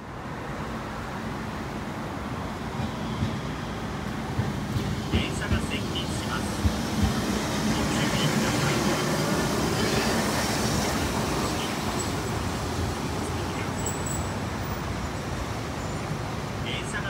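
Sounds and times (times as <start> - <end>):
street and tram traffic rumble: 0.0 - 17.0.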